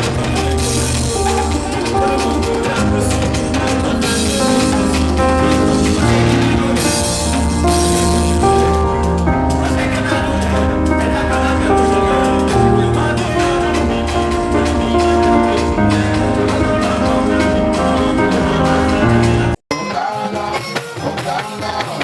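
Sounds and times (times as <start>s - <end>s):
music with pulsing bass beat: 0.0s - 19.6s.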